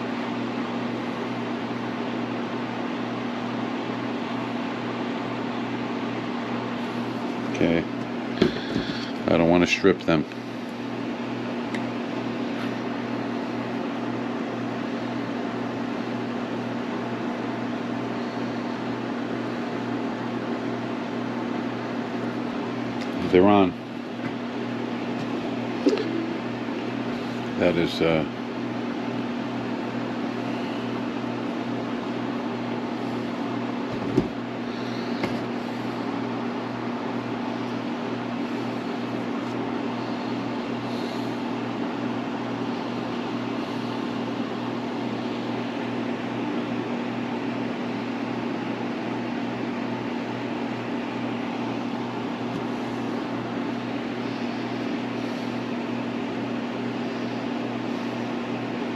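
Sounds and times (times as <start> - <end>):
mechanical hum with hiss: 0.0 - 58.9.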